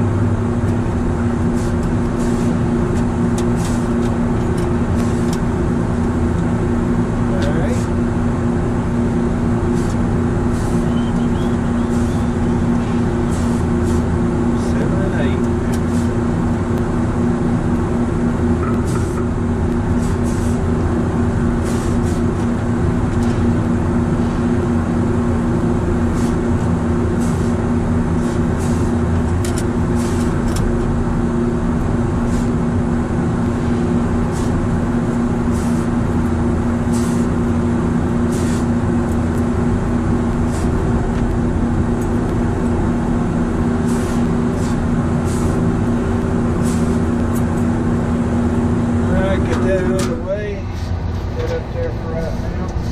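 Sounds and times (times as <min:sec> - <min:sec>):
refrigeration equipment humming: 0:00.0 - 0:52.9.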